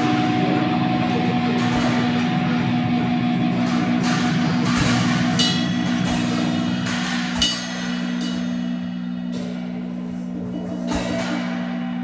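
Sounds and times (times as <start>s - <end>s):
cymbal crashes: 0.0s - 10.2s
amplified low drone: 0.0s - 12.0s.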